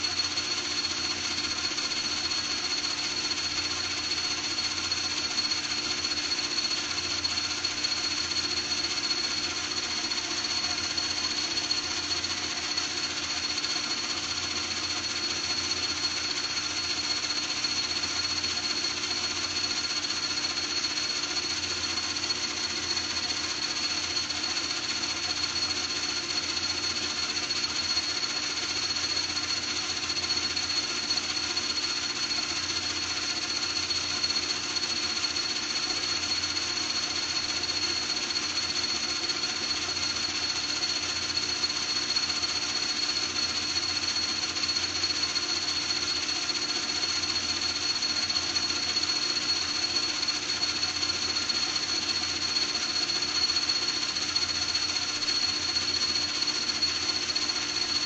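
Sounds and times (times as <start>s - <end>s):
high-pitched machine whine: 0.0s - 58.0s.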